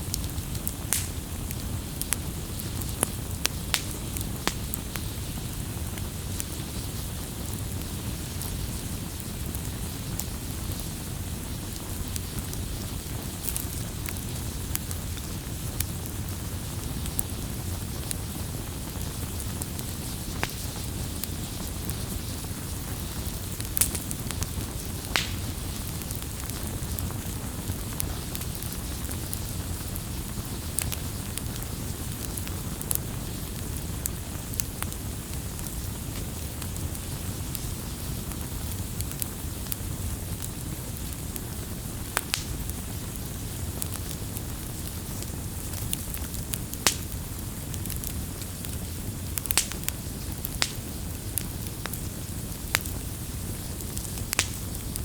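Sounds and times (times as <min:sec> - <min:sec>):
burning wood popping: 0:00.0 - 0:55.0
campfire flames rumbling: 0:00.0 - 0:55.0.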